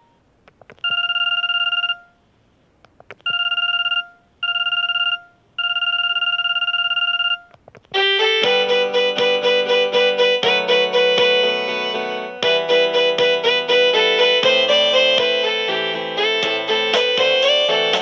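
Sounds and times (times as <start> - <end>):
synthesized phone ringtone melody: 0.9 - 2.2, 3.3 - 7.4, 8.0 - 18.0.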